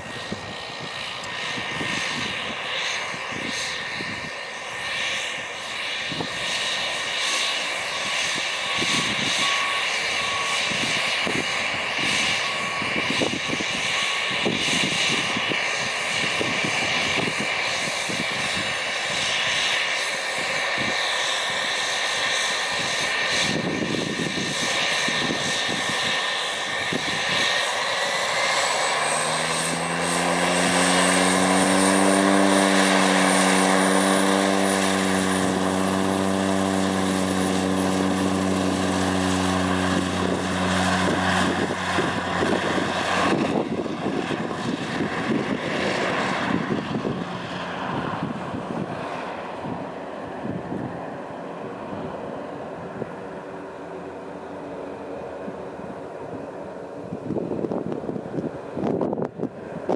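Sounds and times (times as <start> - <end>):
deep propeller drone: 0.0 - 59.9
turbine engine whine: 0.0 - 59.9.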